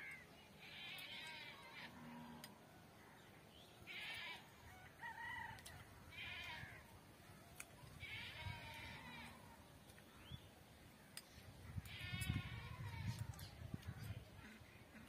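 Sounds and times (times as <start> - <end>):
faint farm animal calls: 0.0 - 15.0.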